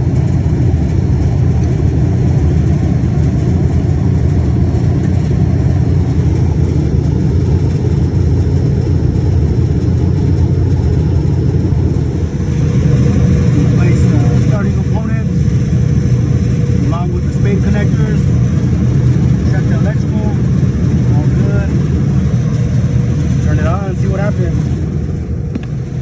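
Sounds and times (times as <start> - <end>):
machinery low rumble: 0.0 - 26.0.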